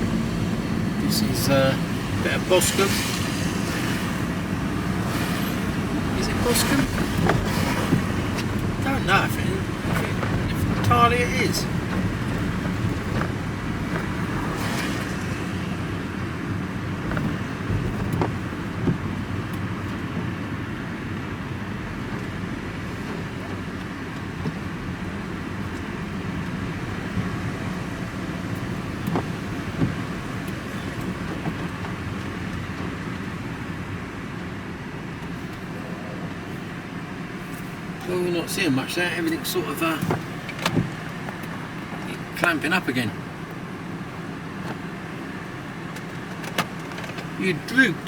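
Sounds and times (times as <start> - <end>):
engine and road noise: 0.0 - 48.0.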